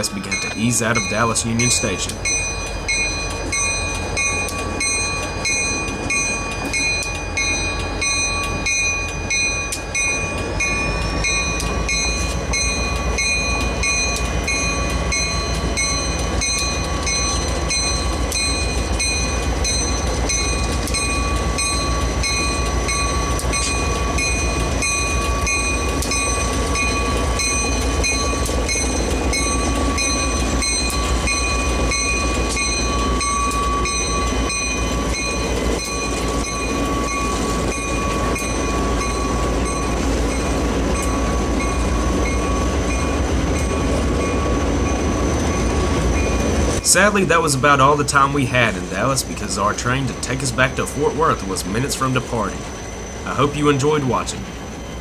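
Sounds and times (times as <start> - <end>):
diesel locomotive engines rumbling: 0.0 - 55.0
locomotive bell ringing: 0.0 - 55.0.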